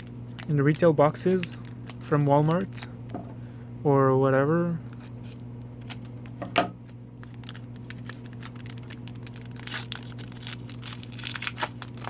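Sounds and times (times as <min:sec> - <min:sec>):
wrapper ripping: 0:00.0 - 0:02.9, 0:04.8 - 0:12.0
card pack wrapper crinkling: 0:00.0 - 0:03.2, 0:04.8 - 0:12.0
steady low hum: 0:00.0 - 0:12.0.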